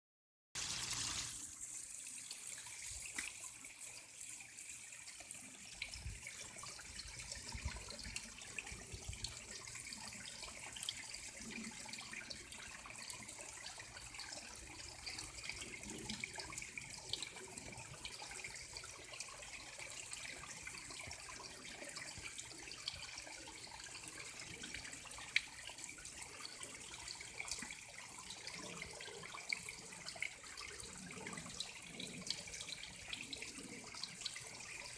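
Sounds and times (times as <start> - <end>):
running water trickling: 0.6 - 34.9
water splashes and drips: 0.6 - 34.9.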